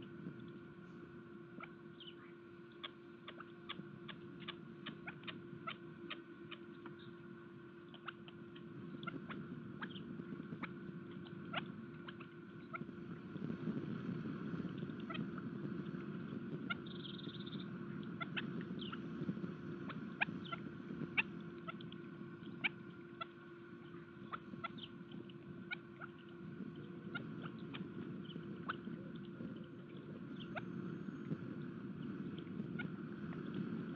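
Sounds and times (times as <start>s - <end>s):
steady low hum: 0.0s - 33.9s
birds pecking seed: 0.1s - 33.9s.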